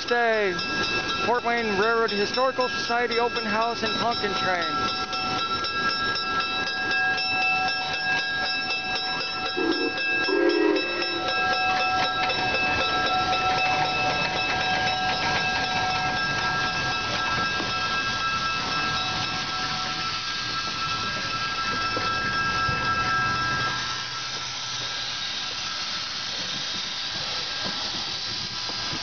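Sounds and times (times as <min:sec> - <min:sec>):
constant hiss: 0:00.0 - 0:29.0
locomotive high-pitched whine: 0:00.0 - 0:29.0.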